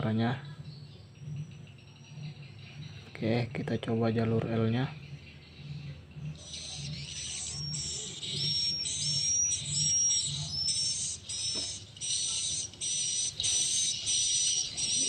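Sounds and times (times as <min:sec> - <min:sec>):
electronic bird chirps: 0:00.0 - 0:15.0
low pulsing beat: 0:00.0 - 0:15.0.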